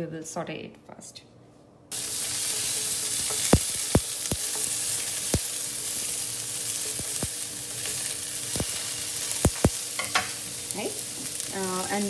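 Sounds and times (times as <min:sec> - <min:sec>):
peppers sizzling in a frying pan: 0:01.9 - 0:12.0.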